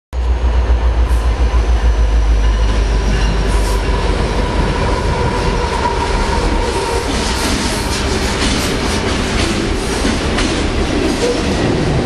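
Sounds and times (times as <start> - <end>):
diesel locomotive engine rumble: 0.2 - 12.0
wheels whining on rails: 0.2 - 12.0.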